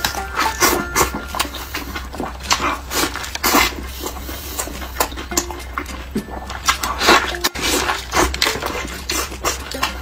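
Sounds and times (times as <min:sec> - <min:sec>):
chewing and wet mouth noises: 0:00.0 - 0:10.0
steady low hum: 0:00.0 - 0:10.0.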